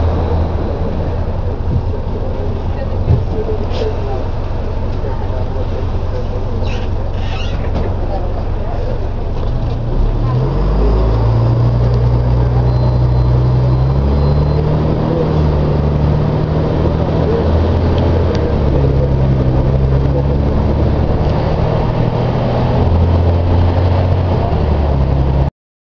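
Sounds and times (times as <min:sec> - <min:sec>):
bus diesel engine droning: 0:00.0 - 0:25.5.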